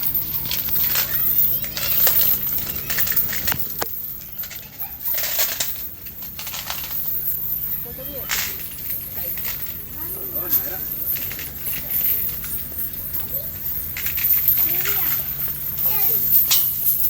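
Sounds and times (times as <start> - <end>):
sharp clicks and clinks: 0.0 - 17.0.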